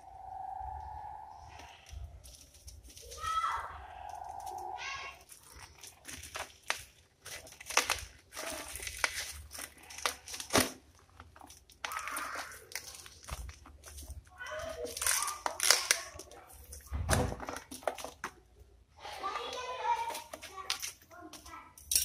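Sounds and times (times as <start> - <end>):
plastic wrap crinkling and tearing: 1.5 - 21.5.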